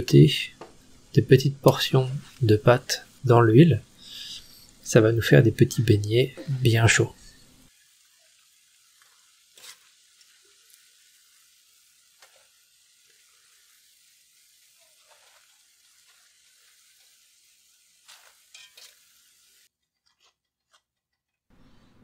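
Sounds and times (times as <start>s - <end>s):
batter sizzling in hot oil: 0.0s - 19.7s.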